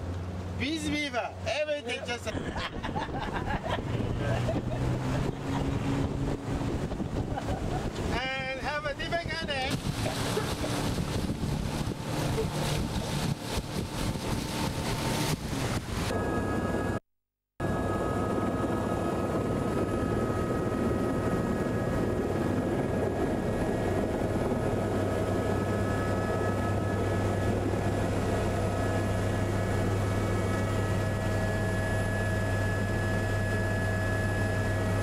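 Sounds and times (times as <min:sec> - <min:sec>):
engine droning: 0:00.0 - 0:17.0, 0:17.6 - 0:35.0.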